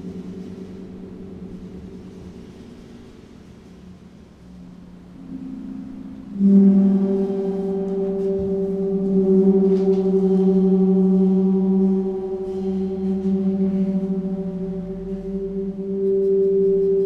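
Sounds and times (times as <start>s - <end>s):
gong humming drone: 0.0s - 17.0s.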